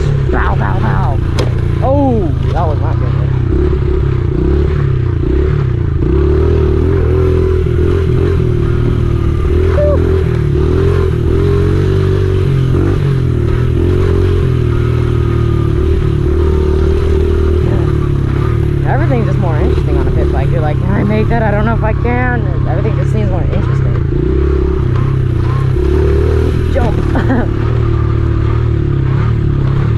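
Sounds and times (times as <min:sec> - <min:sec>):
small motorbike engine revving: 0:00.0 - 0:29.9.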